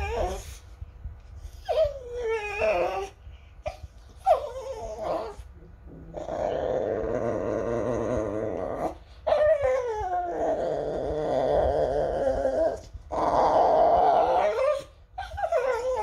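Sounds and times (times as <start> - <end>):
dog growling: 0.0 - 0.5, 1.8 - 3.2, 4.2 - 16.0
dog whining: 0.0 - 0.8, 1.4 - 16.0.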